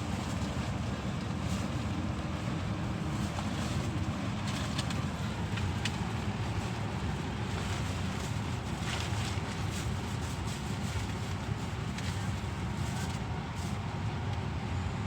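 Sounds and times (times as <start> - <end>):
rain on a car: 0.0 - 13.8
car low rumble: 0.0 - 15.0.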